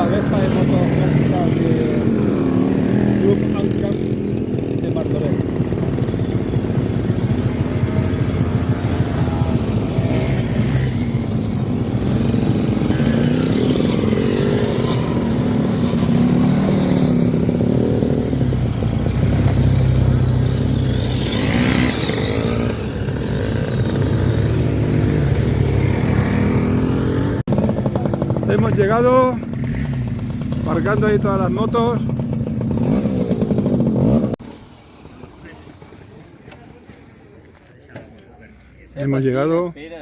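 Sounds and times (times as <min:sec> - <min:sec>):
motorcycles and scooters revving: 0:00.0 - 0:37.6.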